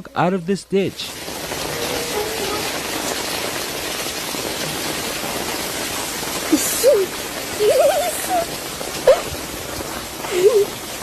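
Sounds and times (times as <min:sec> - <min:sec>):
water hissing: 0:00.7 - 0:11.0.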